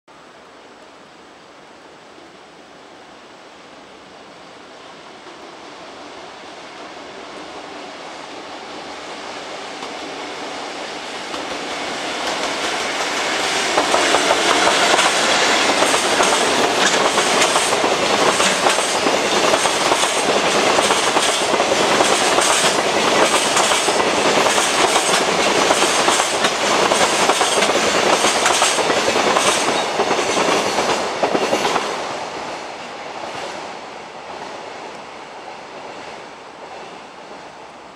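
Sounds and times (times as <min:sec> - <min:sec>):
freight train passing: 0:02.2 - 0:37.9.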